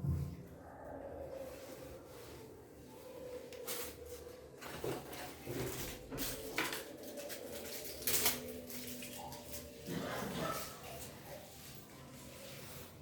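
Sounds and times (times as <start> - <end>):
rustling handling noises: 1.2 - 13.0.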